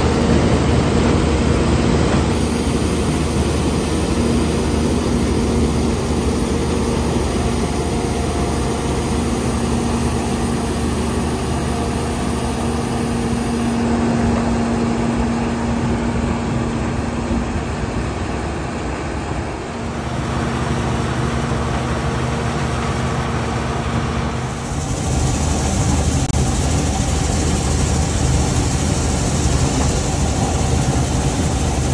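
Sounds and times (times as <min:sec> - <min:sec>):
combine harvester running: 0:00.0 - 0:31.9.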